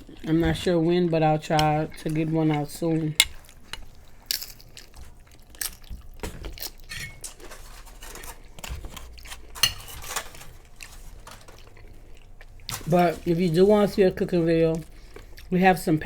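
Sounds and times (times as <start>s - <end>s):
crunching and chewing chips: 0.0s - 15.9s.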